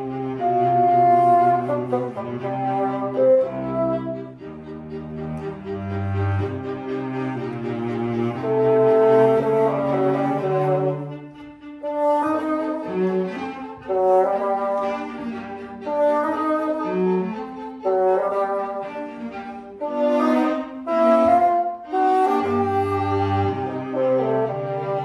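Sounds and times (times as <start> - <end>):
bassoon and string quartet playing: 0.0 - 25.0.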